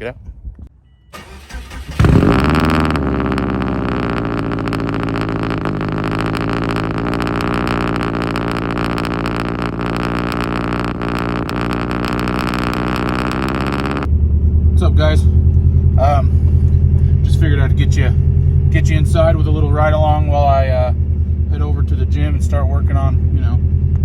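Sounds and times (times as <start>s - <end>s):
car engine cold start and idle: 0.8s - 24.0s.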